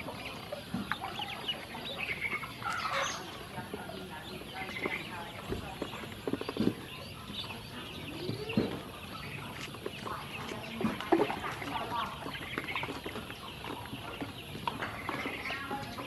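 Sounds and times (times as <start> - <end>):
ducklings paddling in water: 0.0 - 16.0
ducklings peeping: 0.0 - 16.0.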